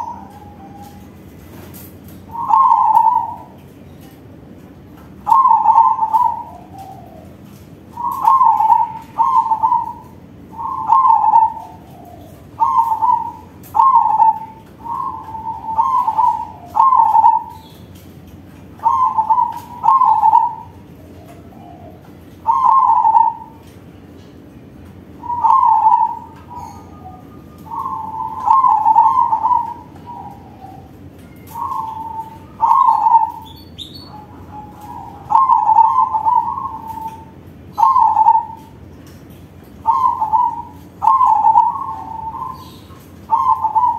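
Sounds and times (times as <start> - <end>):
dove cooing: 0.0 - 4.2, 5.2 - 18.1, 18.7 - 24.1, 25.0 - 38.9, 39.6 - 43.9.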